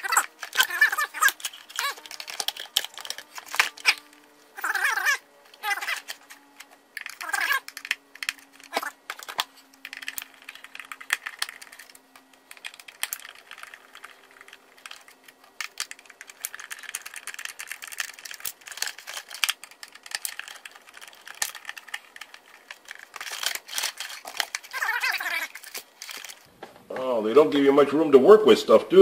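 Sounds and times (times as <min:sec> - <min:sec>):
hard plastic clicking and scraping: 0:00.0 - 0:26.5.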